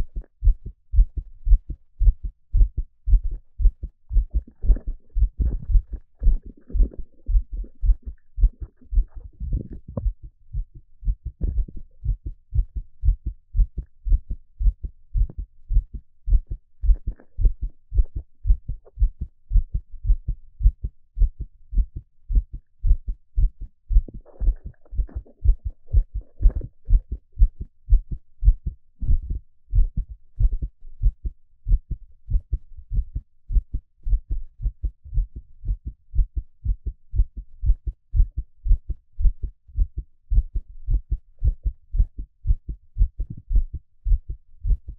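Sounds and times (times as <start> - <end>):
heartbeat through stethoscope: 0.0 - 44.9.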